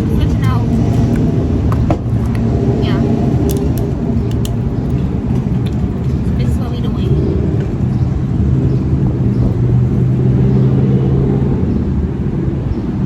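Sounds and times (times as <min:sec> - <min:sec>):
low hum: 0:00.0 - 0:13.0
road and engine noise in car: 0:00.0 - 0:13.0.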